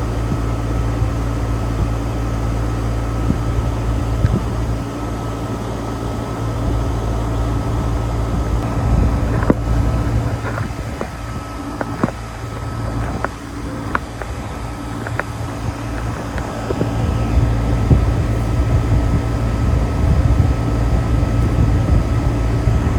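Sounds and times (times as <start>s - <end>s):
air conditioner unit humming: 0.0s - 22.9s.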